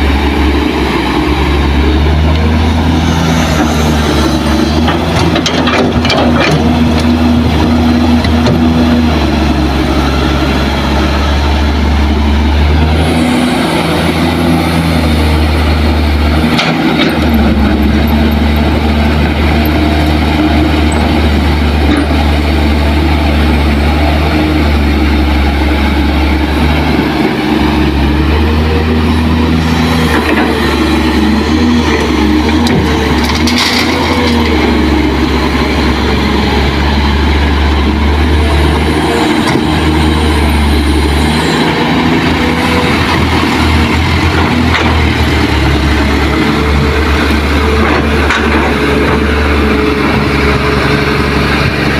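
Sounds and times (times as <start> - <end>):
excavator diesel engine under load: 0.0 - 51.9.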